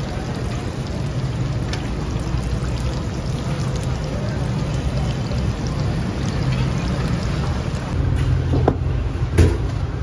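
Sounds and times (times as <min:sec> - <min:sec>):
deep-frying oil sizzling: 0:00.0 - 0:10.0.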